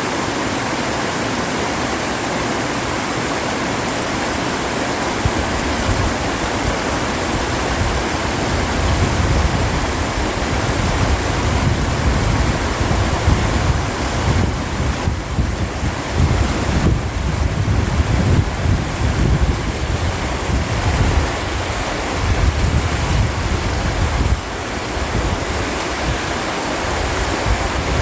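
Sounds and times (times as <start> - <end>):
stream rushing: 0.0 - 28.0
wind on microphone: 4.3 - 28.0.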